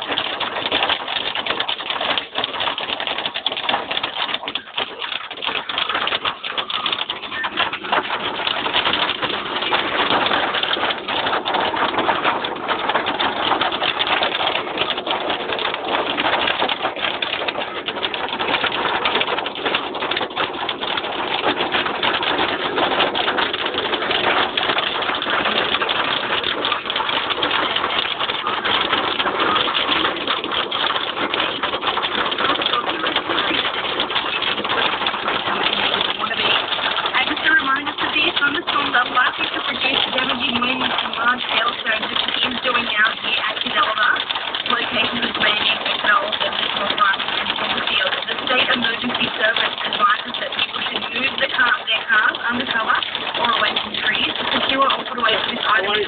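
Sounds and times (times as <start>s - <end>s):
hail and heavy rain pelting: 0.0s - 56.0s.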